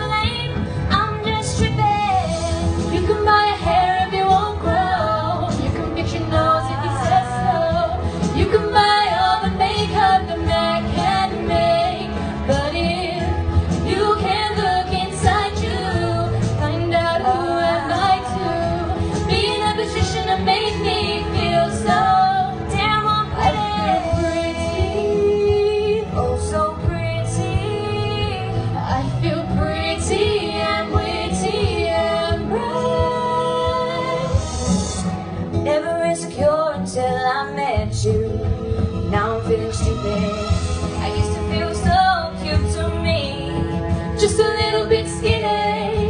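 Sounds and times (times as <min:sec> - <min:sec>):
two women singing: 0:00.0 - 0:46.0.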